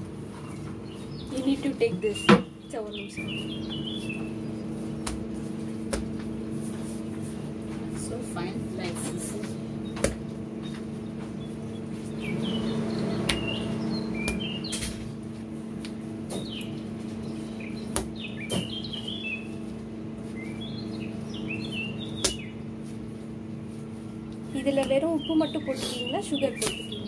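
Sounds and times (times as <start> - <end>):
steady low hum: 0.0 - 27.0
small birds chirping: 0.2 - 27.0.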